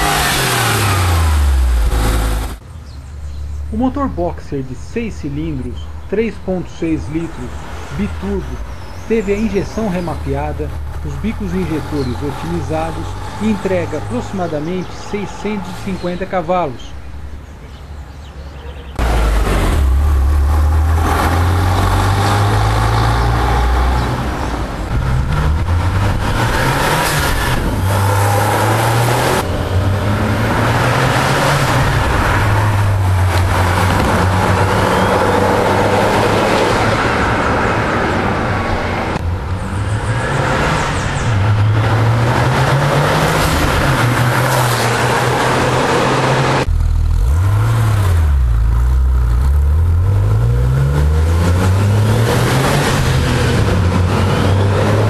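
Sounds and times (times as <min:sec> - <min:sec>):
car engine accelerating and revving: 0:00.0 - 0:02.6, 0:06.8 - 0:16.2, 0:19.0 - 0:55.0.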